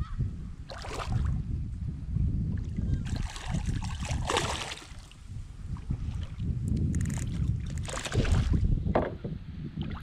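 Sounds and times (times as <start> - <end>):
water splashing and sloshing: 0.6 - 1.5, 2.5 - 10.0.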